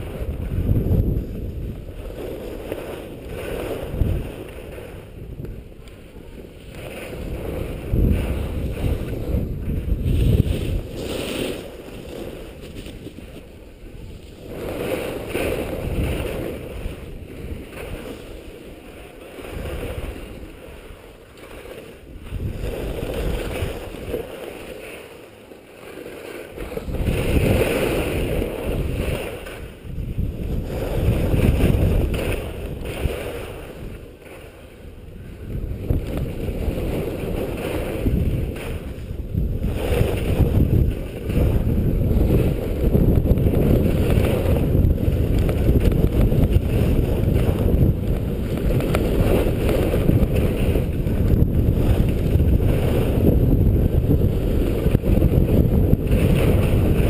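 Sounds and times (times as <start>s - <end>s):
skis scraping on snow: 0.0s - 57.0s
wind rushing over microphone: 0.0s - 57.0s.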